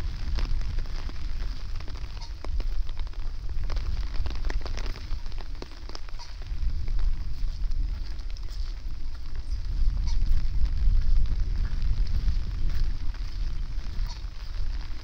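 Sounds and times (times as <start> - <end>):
rain pattering: 0.0 - 15.0
wind buffeting microphone: 0.0 - 15.0.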